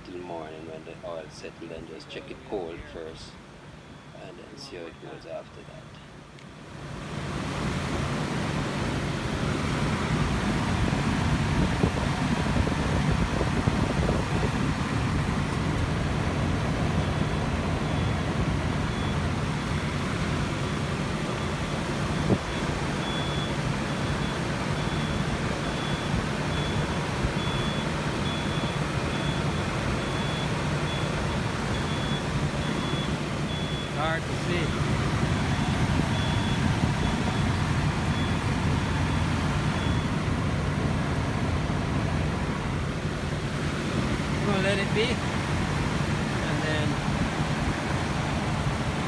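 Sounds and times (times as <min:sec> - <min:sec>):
minivan engine running: 0:00.0 - 0:49.0.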